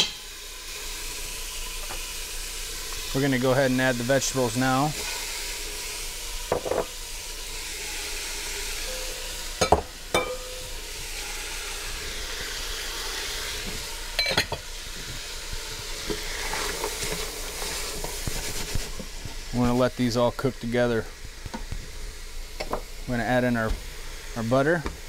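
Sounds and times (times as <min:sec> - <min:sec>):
chicken sizzling in hot oil: 0:00.0 - 0:25.0.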